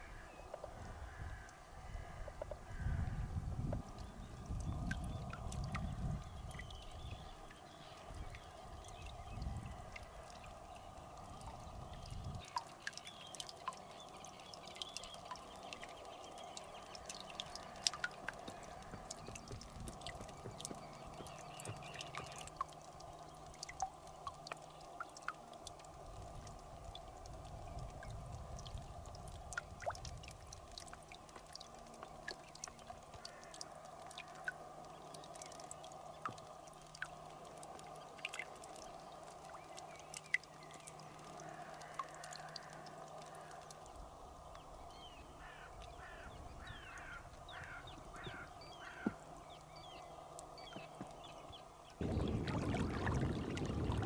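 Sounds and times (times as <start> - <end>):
water dripping and trickling: 0.0 - 54.0.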